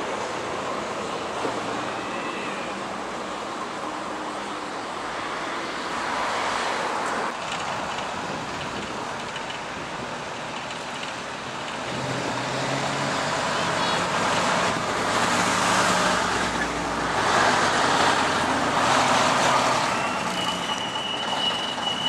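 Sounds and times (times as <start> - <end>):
traffic and engine hum: 0.0 - 22.0.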